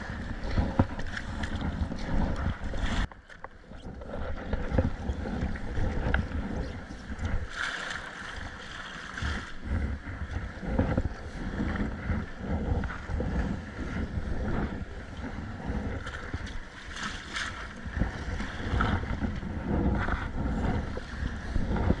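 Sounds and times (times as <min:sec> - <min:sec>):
water sloshing against boat: 0:00.0 - 0:22.0
wind buffeting microphone: 0:00.0 - 0:22.0.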